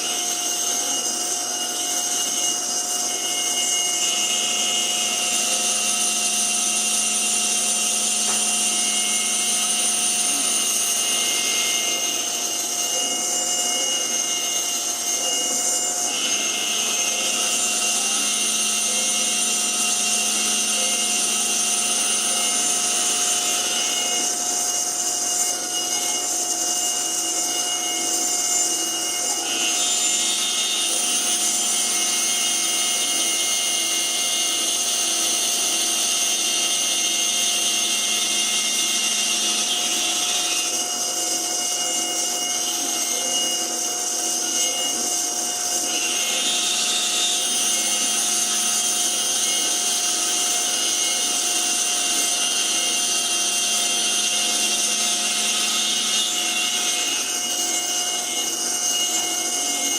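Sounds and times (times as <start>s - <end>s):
milling spindle whining: 0.0s - 59.9s.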